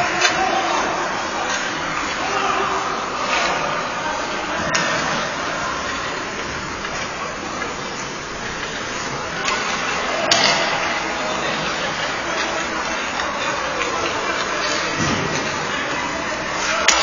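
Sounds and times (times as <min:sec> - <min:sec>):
distant voices: 0:00.0 - 0:17.0.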